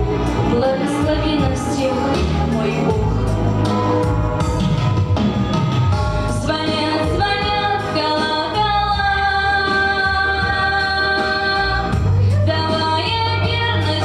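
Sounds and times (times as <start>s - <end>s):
instrumental accompaniment with bass: 0.0s - 14.0s
woman singing: 0.4s - 4.0s, 6.3s - 14.0s.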